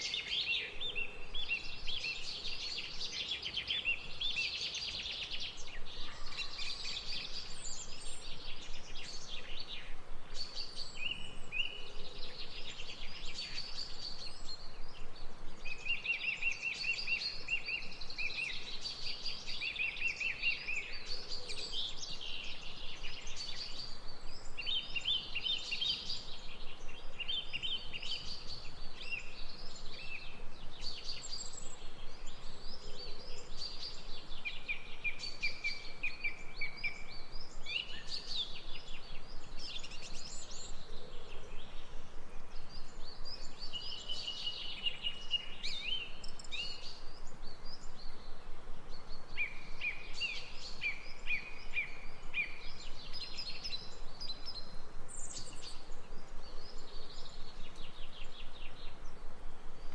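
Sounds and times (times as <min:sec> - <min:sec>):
birds singing and chirping: 0:00.0 - 0:59.9
faint background hiss: 0:00.0 - 0:59.9.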